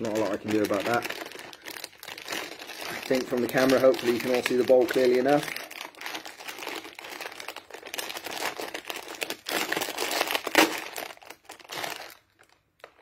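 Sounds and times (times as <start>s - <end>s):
foil bag ripping: 0.0s - 12.5s
foil bag crinkling: 0.0s - 13.0s.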